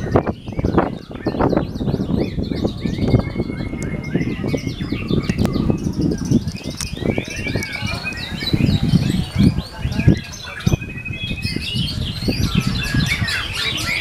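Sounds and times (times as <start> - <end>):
caged songbirds singing: 0.0 - 14.0.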